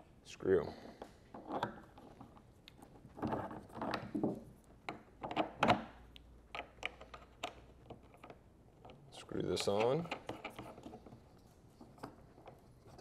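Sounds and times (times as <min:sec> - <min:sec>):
mounting hardware clicking and rattling: 0:00.9 - 0:13.0.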